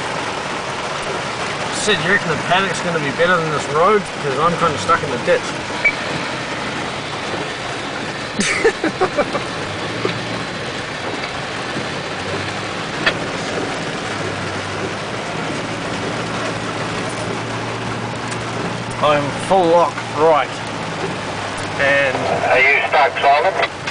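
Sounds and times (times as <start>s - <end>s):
car engine droning under load: 0.0s - 23.9s.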